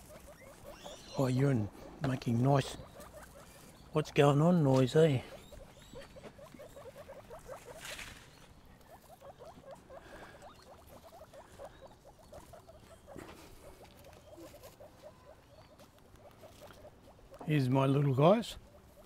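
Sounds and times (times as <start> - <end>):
guinea pigs squeaking: 0.0 - 19.0.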